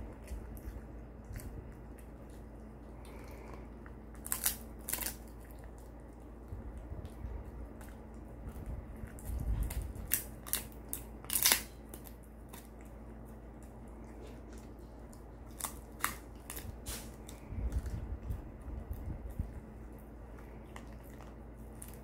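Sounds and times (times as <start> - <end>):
sharp crunches and tooth clicks: 0.0 - 13.0, 13.6 - 19.6
dog chewing on a treat: 0.0 - 22.0.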